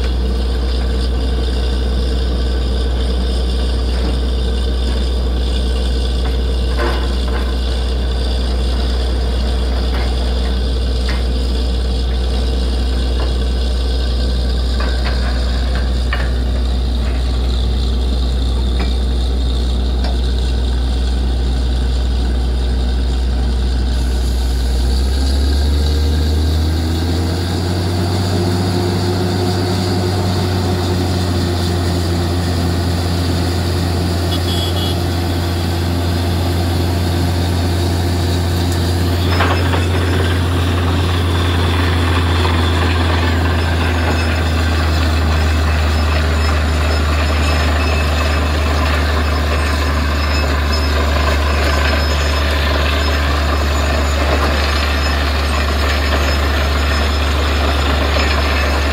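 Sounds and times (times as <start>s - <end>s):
drilling rig engine running: 0.0s - 58.9s.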